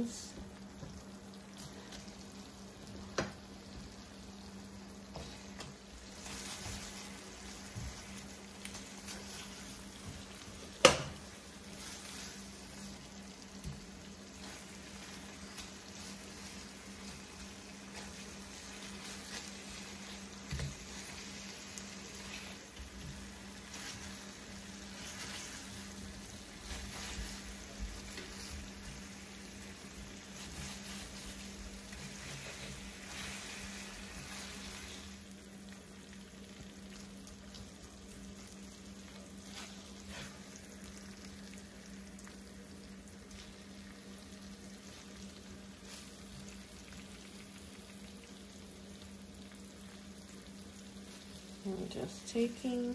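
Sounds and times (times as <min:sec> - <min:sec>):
sauce sizzling in a skillet: 0:00.0 - 0:52.9.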